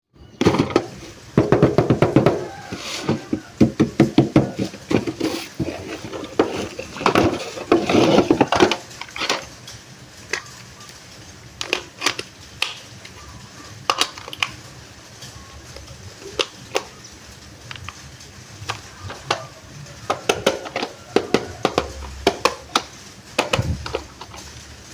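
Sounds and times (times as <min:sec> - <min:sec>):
plastic parts clicking: 0:01.6 - 0:11.0, 0:11.6 - 0:14.6, 0:15.2 - 0:24.9.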